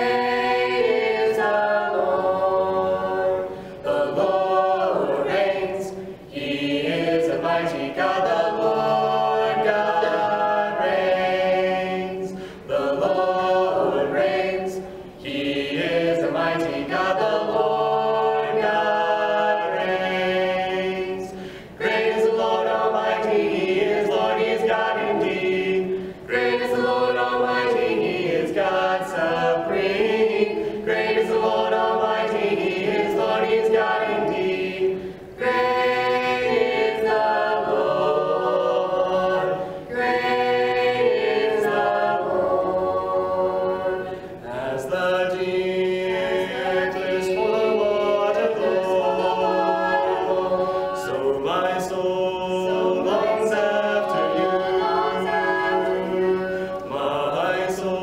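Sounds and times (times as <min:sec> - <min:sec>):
vocal quartet singing a hymn: 0:00.0 - 0:58.0.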